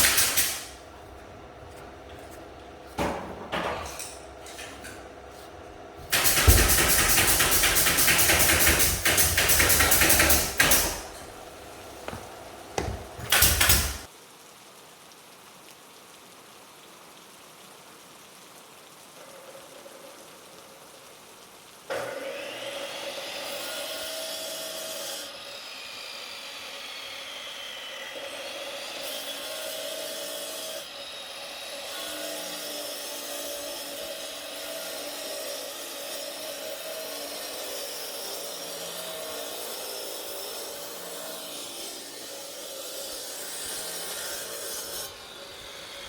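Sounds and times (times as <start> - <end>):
power tool running: 0.0 - 14.1, 21.9 - 46.0.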